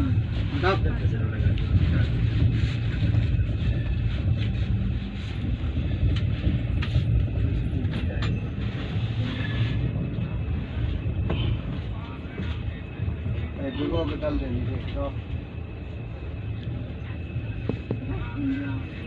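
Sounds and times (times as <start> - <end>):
train rumbling inside coach: 0.0 - 19.0.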